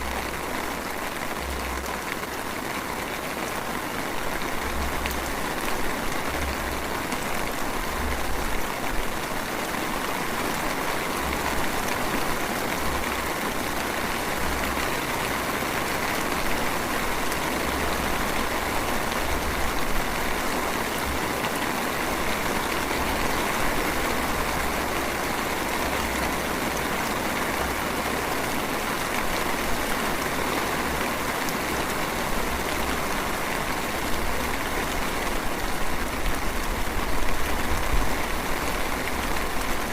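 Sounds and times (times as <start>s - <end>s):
light drizzle patter: 0.0s - 39.9s.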